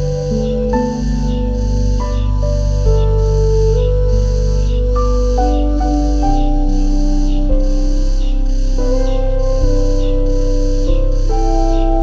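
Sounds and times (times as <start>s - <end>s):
ambient keyboard chords: 0.0s - 12.0s
held bass: 0.0s - 12.0s.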